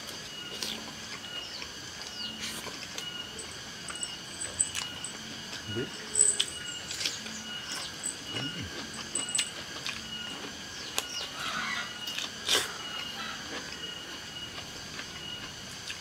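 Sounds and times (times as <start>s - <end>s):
chewing crisp raw vegetables: 0.0s - 16.0s
crickets chirping: 0.0s - 16.0s.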